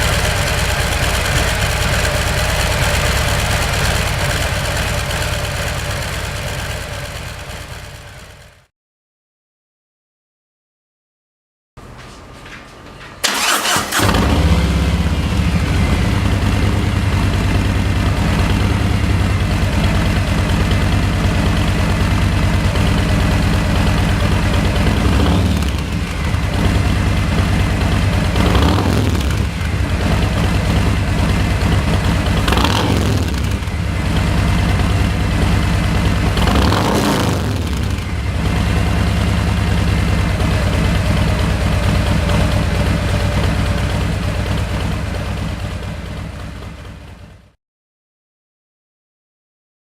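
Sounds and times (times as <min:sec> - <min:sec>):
motorcycle engine idling and revving: 0:00.0 - 0:08.7, 0:13.2 - 0:47.6.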